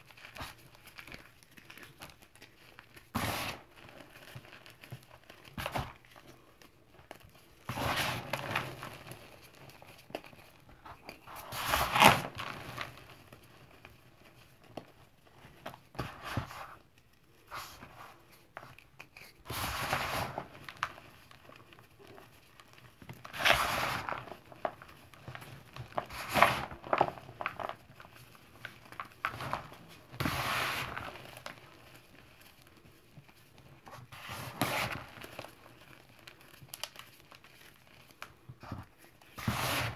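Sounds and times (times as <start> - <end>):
hands crushing chalk: 0.0 - 39.9.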